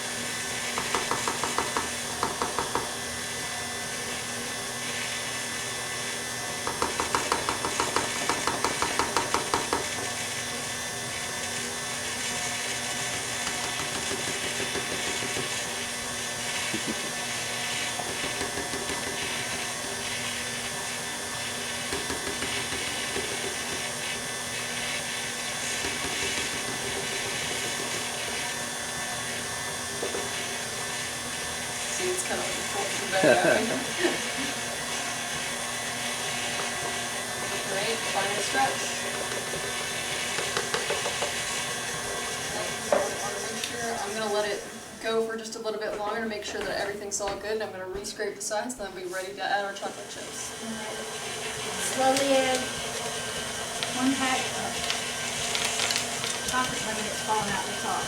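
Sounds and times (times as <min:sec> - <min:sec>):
electric mixer running: 0:00.0 - 0:47.6, 0:48.8 - 0:58.0.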